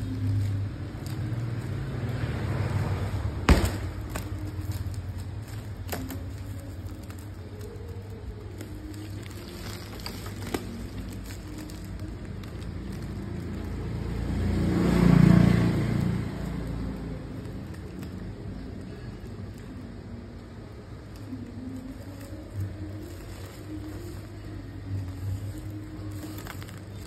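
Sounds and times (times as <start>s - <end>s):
plastic wrap rustling: 0.0s - 27.0s.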